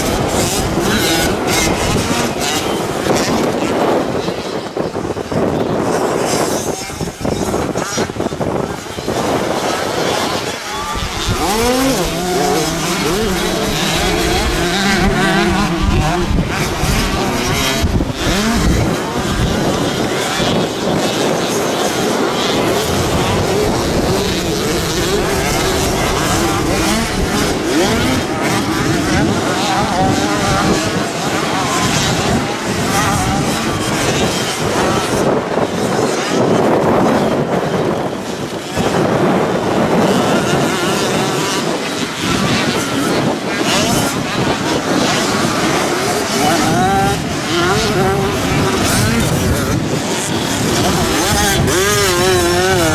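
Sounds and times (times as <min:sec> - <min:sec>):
motocross bikes revving: 0:00.0 - 0:52.9.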